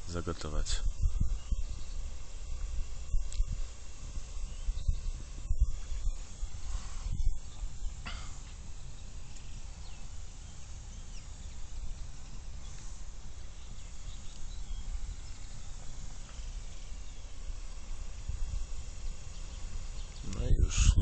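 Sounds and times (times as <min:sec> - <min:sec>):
wind rumble on microphone: 0:00.0 - 0:21.0
faint bird chirps: 0:00.1 - 0:03.5, 0:04.3 - 0:17.5, 0:19.0 - 0:21.0.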